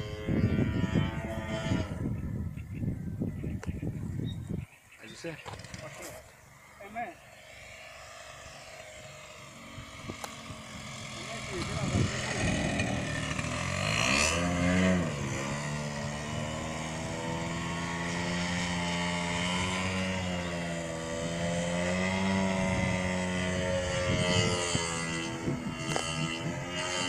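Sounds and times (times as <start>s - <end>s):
model airplane motor buzzing: 0.0s - 4.0s, 5.2s - 27.0s.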